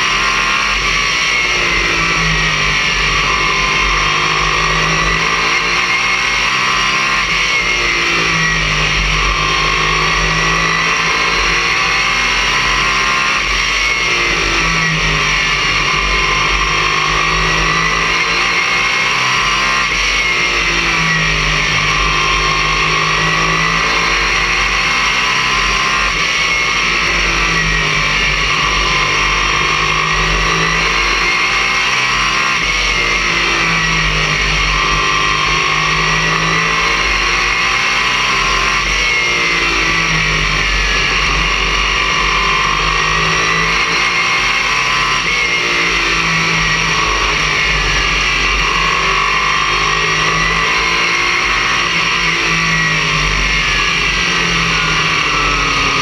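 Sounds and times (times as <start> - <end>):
race car engine: 0.0 - 56.0
road and wind noise: 0.0 - 56.0.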